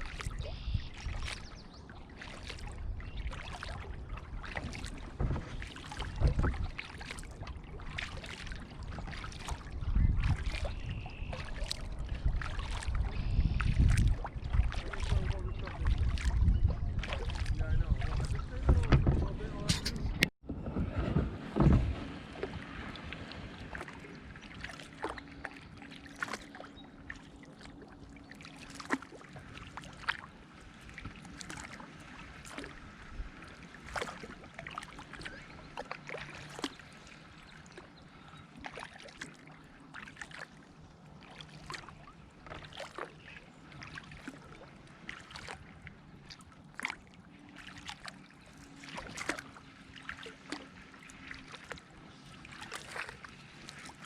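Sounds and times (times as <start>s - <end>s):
paddle drips and splashes: 0.0s - 54.0s.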